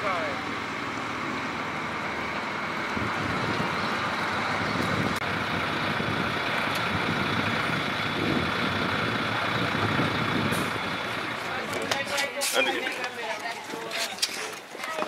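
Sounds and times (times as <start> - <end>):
bus engine idling: 0.0 - 12.8.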